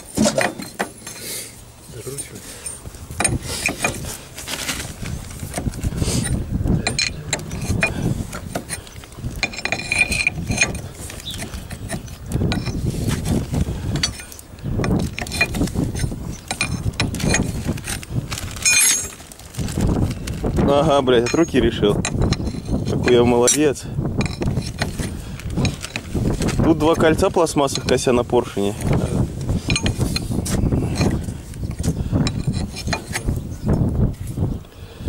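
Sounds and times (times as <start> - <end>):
metal tools clinking and scraping: 0.0 - 19.4, 20.6 - 33.8
wind rumbling on the microphone: 2.8 - 35.0.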